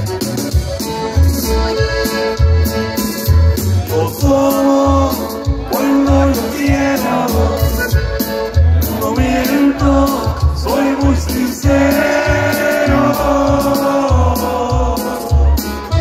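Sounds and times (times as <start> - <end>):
accordion band music over loudspeakers: 0.0 - 16.0.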